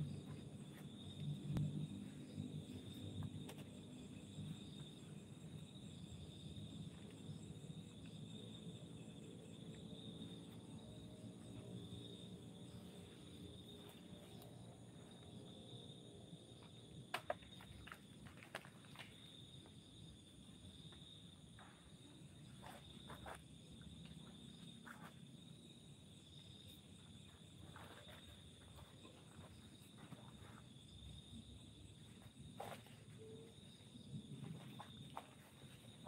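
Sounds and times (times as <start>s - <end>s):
night insects trilling: 0.0s - 36.0s.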